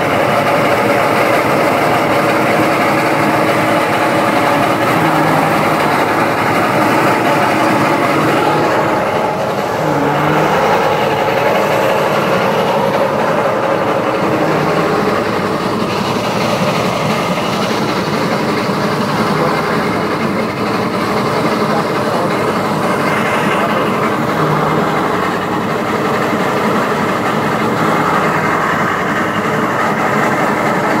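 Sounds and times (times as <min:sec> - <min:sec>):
threshing machine running: 0:00.0 - 0:31.0.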